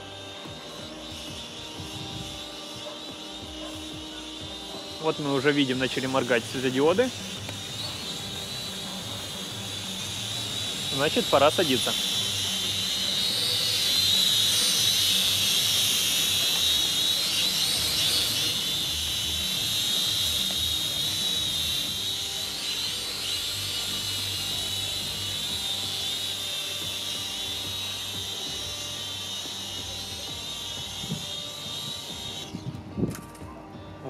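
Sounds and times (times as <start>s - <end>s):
quadcopter propeller whine: 0.0s - 34.0s.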